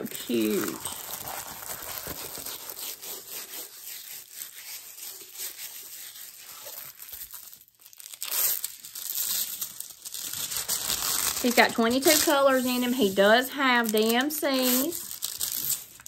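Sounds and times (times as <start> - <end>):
plastic film crinkling and rustling: 0.0 - 16.0.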